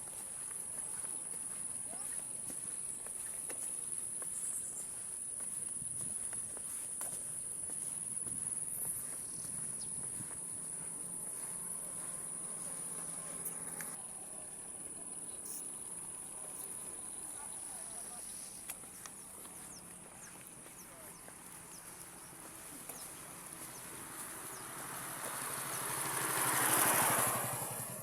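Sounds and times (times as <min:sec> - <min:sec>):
insects chirring: 0:00.0 - 0:27.8.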